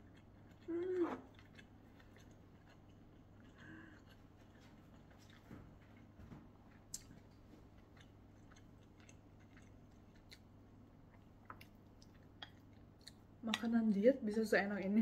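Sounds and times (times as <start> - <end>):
quiet chewing: 0.0 - 13.7
low steady hum: 0.0 - 15.0.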